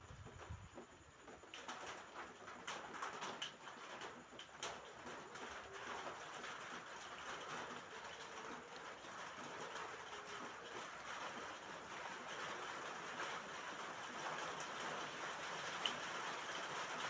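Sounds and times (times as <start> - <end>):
raindrops tapping on roof: 0.0 - 17.0.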